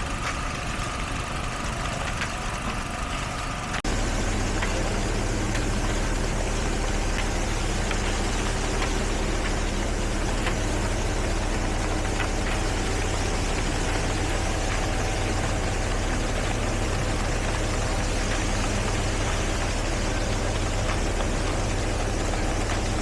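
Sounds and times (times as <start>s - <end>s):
construction machinery engine drone: 0.0s - 23.0s.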